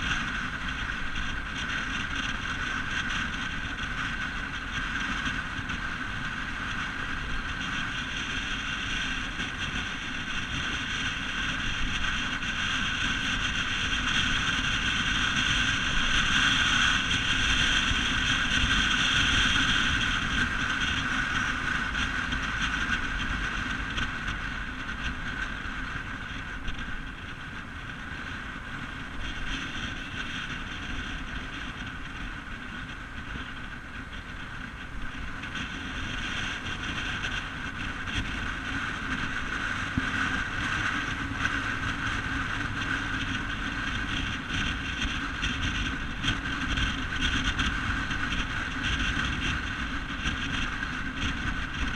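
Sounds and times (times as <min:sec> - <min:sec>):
vehicle engine and road noise: 0:00.0 - 0:51.9.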